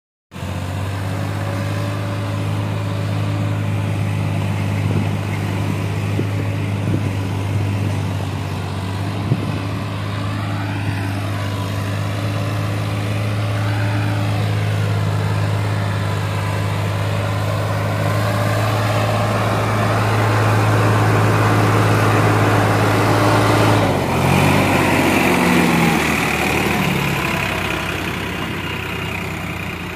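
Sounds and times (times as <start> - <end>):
tractor diesel engine running: 0.3 - 29.9.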